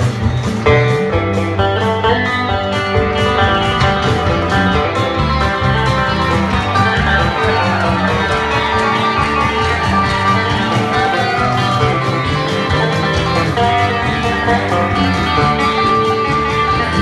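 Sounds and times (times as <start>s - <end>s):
live country bluegrass band: 0.0s - 17.0s.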